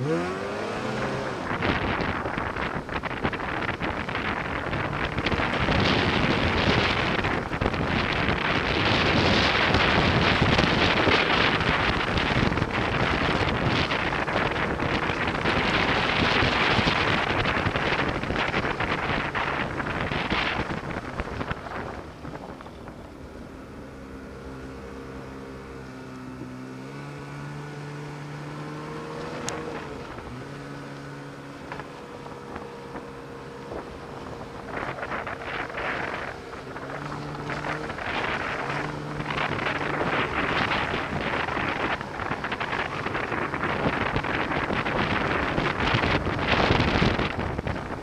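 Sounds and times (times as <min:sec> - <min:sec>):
snowmobile engine revving: 0:00.0 - 0:48.0
wind buffeting microphone: 0:00.0 - 0:48.0.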